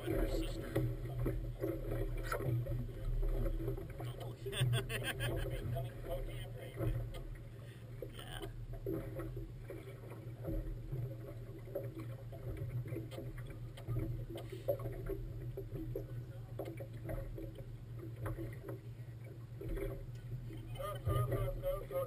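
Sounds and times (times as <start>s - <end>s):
motorboat engine humming: 0.0s - 22.0s
water slapping against hull: 0.0s - 22.0s.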